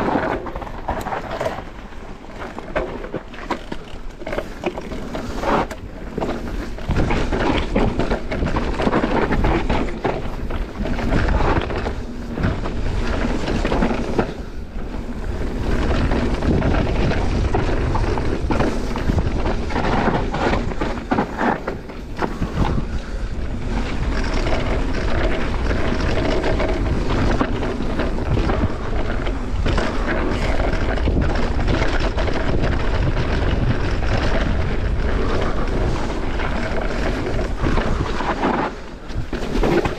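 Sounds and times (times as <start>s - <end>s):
bike tyres rolling on rocky trail: 0.0s - 39.9s
wind buffeting microphone: 0.0s - 39.9s.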